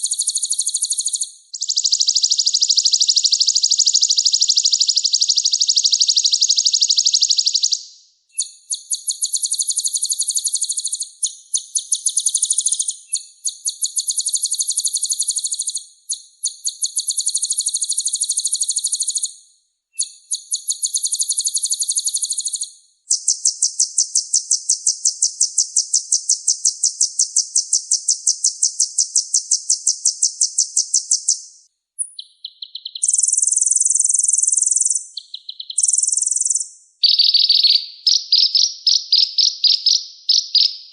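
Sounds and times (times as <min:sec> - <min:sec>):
sunbird singing trills: 0:00.0 - 0:07.8, 0:08.4 - 0:19.3, 0:20.0 - 0:40.9.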